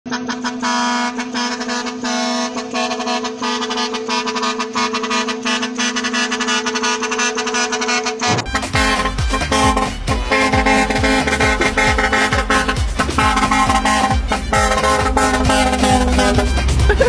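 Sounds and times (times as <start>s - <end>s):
truck air horn: 0.0s - 17.0s
truck road noise: 0.0s - 17.0s.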